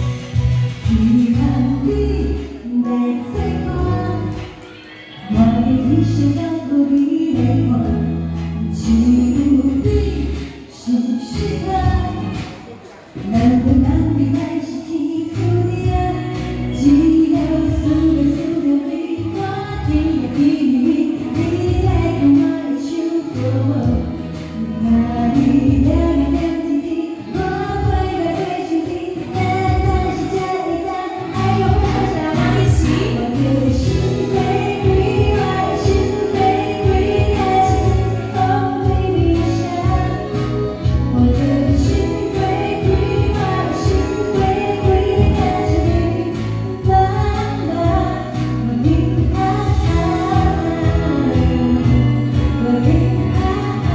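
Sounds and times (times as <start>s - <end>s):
backing track with steady beat: 0.0s - 53.9s
woman singing into microphone: 0.0s - 53.9s.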